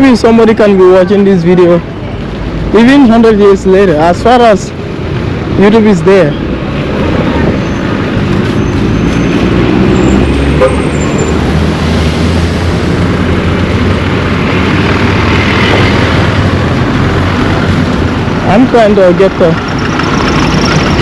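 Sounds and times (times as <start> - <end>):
rushing traffic noise: 0.0 - 21.0
vehicle engine humming: 0.0 - 21.0.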